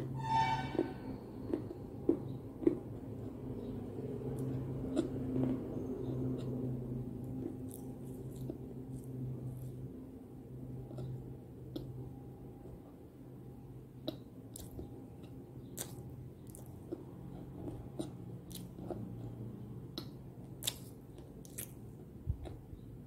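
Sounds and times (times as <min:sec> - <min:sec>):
low steady hum: 0:00.0 - 0:23.0
chewing crunchy cookie: 0:01.1 - 0:13.0, 0:13.8 - 0:23.0.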